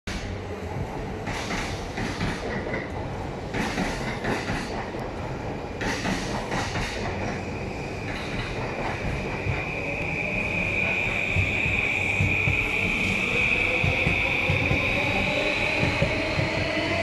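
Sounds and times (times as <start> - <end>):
train wheels clattering over rails: 0.1 - 10.1, 10.8 - 17.0.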